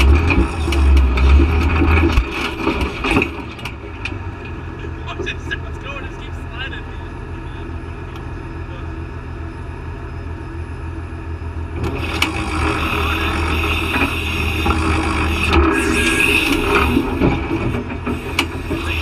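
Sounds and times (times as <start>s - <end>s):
off-road vehicle engine climbing: 0.0s - 19.0s.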